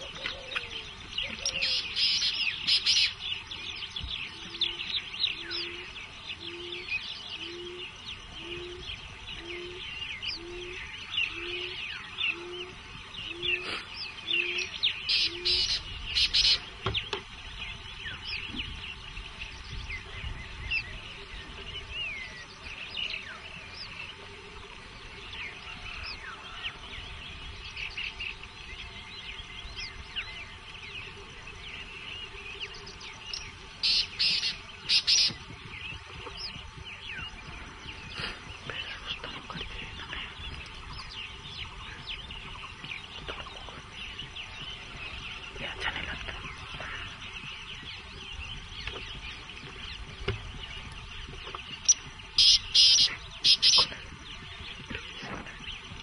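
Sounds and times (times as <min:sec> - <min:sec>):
wild birds chirping and calling: 0:00.0 - 0:56.0.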